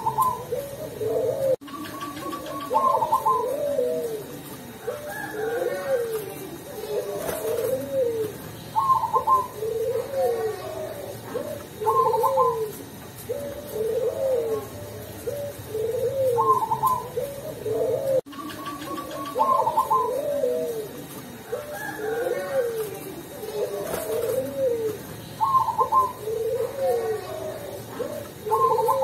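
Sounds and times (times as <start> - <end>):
dove cooing: 0.0 - 29.0.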